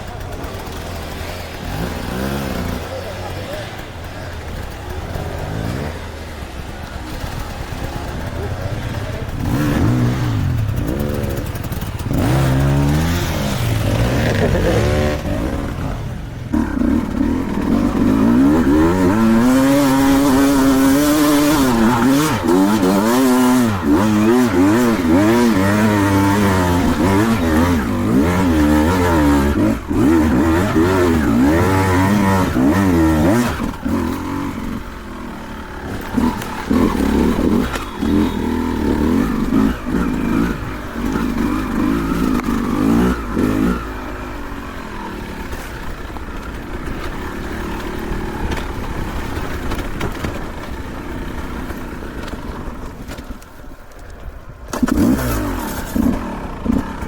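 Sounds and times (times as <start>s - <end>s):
dirt bike engine revving: 0.0s - 53.3s, 54.6s - 57.0s.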